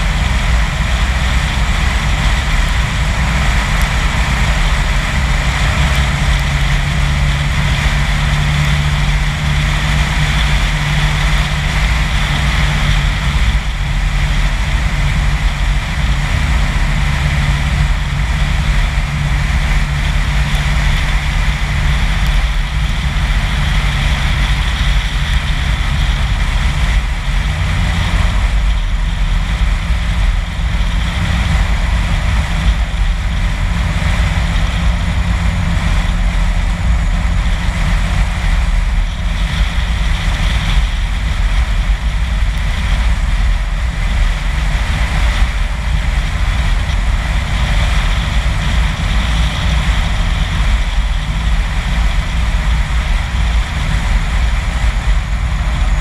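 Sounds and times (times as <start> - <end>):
car driving road noise: 0.0 - 56.0.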